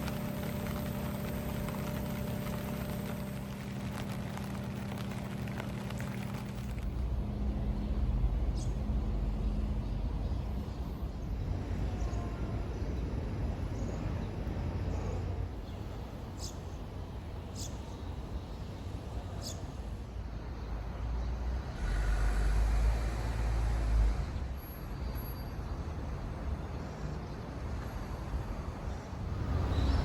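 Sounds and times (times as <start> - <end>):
low rumble of road traffic: 0.0 - 30.0.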